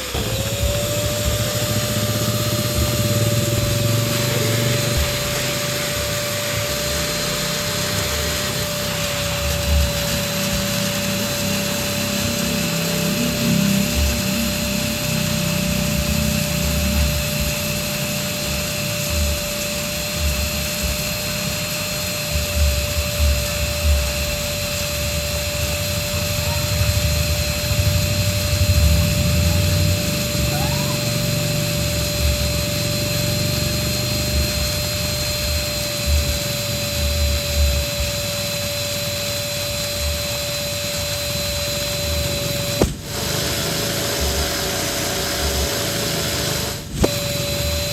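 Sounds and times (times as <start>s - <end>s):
electric balloon pump whining: 0.0s - 47.9s.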